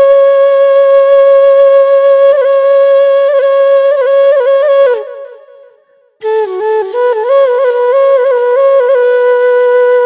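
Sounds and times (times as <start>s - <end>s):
solo flute melody: 0.0s - 10.0s.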